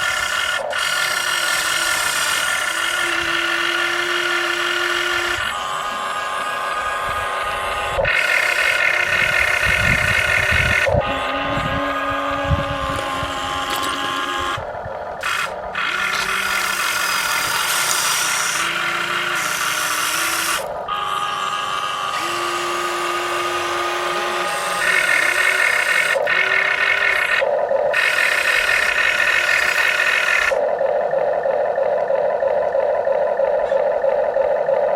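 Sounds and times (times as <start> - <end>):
toy electric motors whining: 0.0 - 34.9.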